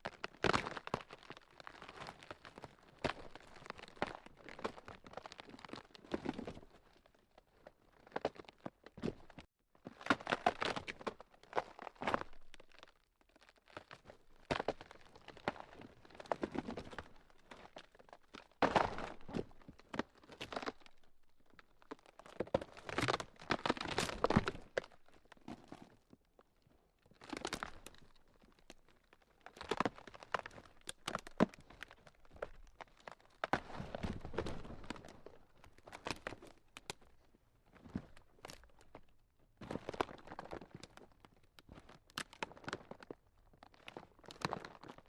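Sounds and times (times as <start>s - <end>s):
ground cracking and crunching: 0.0s - 45.0s.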